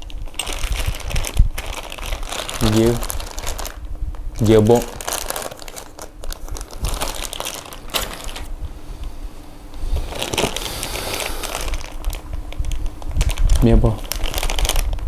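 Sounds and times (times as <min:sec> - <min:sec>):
plastic bags crinkling: 0:00.0 - 0:08.5, 0:09.9 - 0:15.0.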